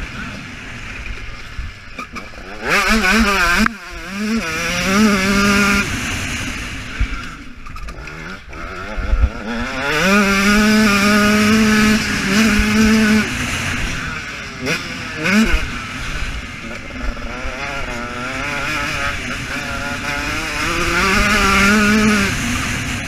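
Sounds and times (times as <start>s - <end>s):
motocross engine revving: 0.0s - 23.0s.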